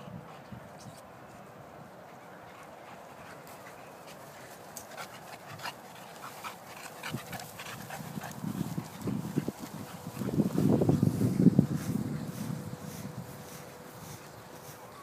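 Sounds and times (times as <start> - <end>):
dogs panting and snuffling: 0.0 - 15.0.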